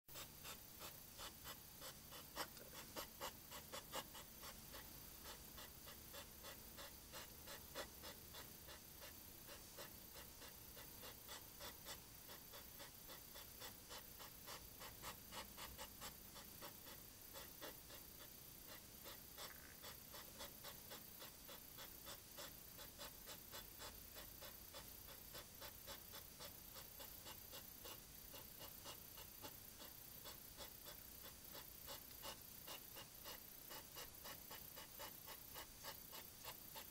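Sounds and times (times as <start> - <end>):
hedgehog snorting puffs: 0.1 - 36.9.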